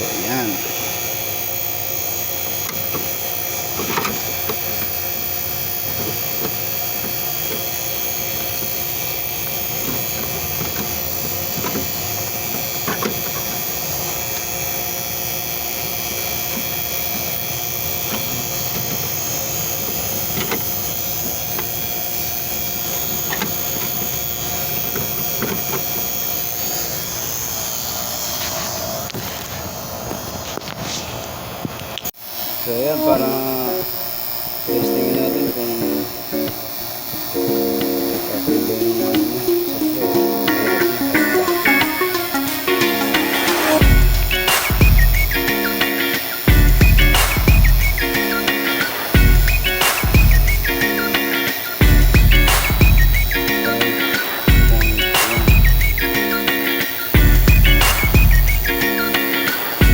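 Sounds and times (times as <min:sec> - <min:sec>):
vacuum pump running: 0:00.0 - 0:30.7, 0:32.2 - 0:59.9.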